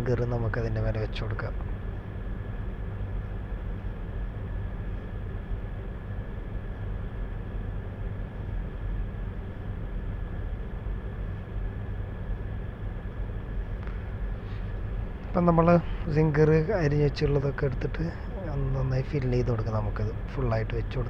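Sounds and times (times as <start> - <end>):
faint high whine: 0.0 - 21.0
low mechanical hum: 0.0 - 21.0.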